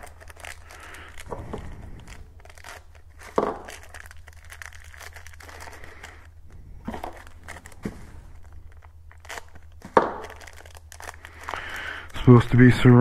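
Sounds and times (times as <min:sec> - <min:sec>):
plastic bag and bubble wrap crinkling: 0:00.0 - 0:13.0.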